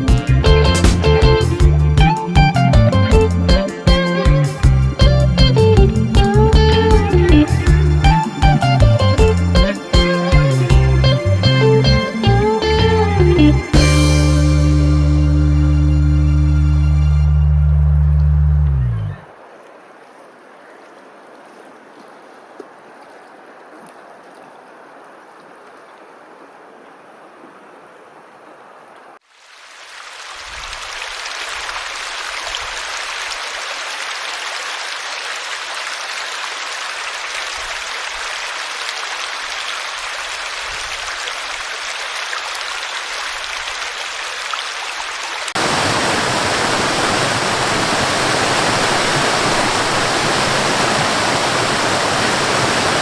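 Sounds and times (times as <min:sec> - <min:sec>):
rushing water: 0:00.0 - 0:16.2, 0:19.2 - 0:53.0.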